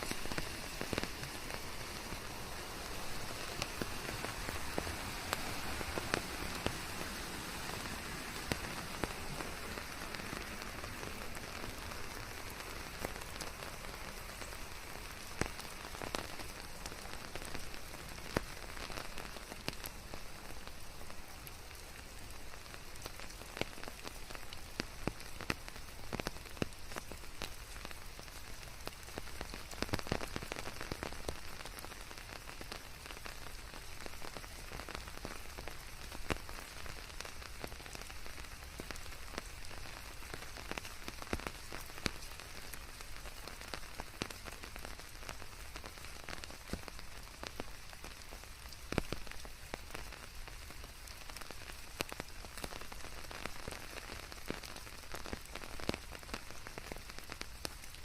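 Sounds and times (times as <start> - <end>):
rain falling: 0.0 - 58.0
raindrops pattering close by: 0.0 - 58.0.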